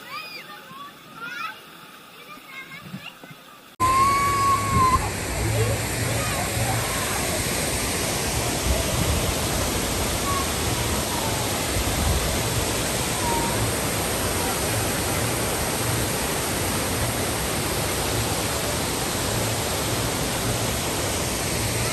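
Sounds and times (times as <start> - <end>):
water rushing and churning: 0.0 - 21.9.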